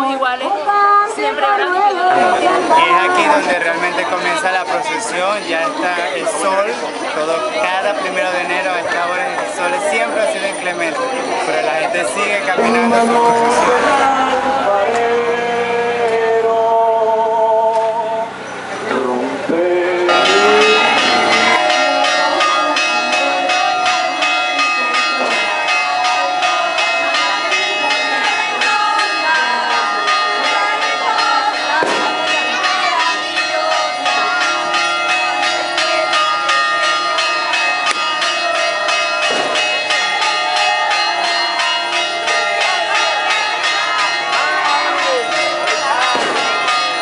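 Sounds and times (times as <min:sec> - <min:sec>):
crowd murmuring: 0:00.0 - 0:47.0
church bells pealing: 0:02.1 - 0:16.8, 0:19.8 - 0:47.0.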